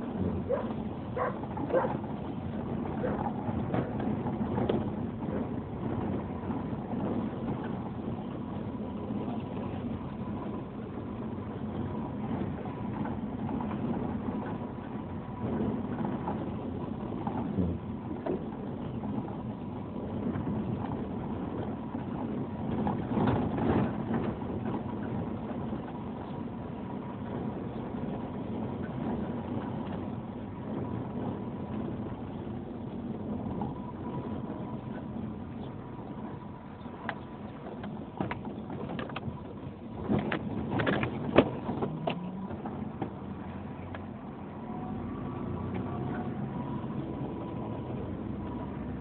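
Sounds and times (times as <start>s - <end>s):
vehicle engine and road rumble: 0.0s - 49.0s.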